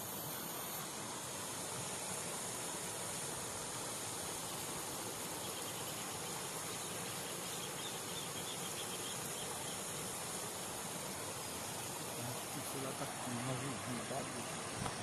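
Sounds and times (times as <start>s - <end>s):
faint insect chirps: 0.0s - 15.0s
outdoor hiss: 0.0s - 15.0s.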